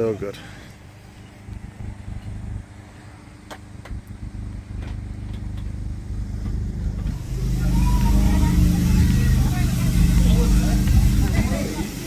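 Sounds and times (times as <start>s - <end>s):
railway carriage rumble and hum: 0.0s - 12.0s.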